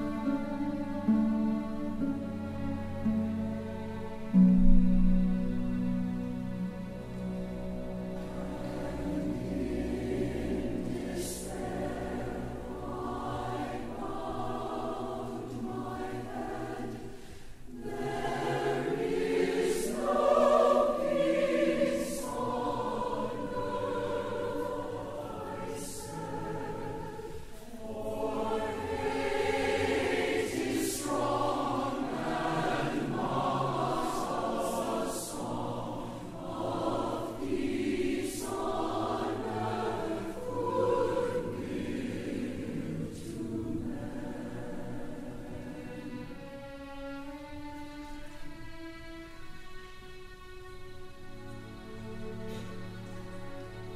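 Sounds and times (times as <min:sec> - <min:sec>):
church choir singing: 0:00.0 - 0:04.4, 0:07.0 - 0:49.2
orchestral accompaniment: 0:00.0 - 0:16.9, 0:17.7 - 0:53.9.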